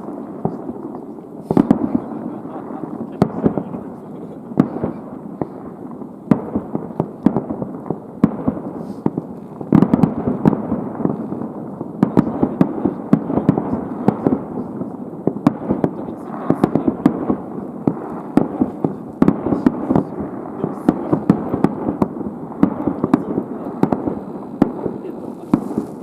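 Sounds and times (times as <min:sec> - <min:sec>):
continuous rumble: 0:00.0 - 0:26.0
fireworks bangs and crackles: 0:00.0 - 0:26.0.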